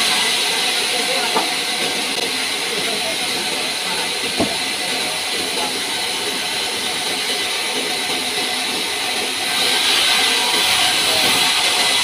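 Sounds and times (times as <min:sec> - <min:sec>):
band saw hissing: 0:00.0 - 0:12.0.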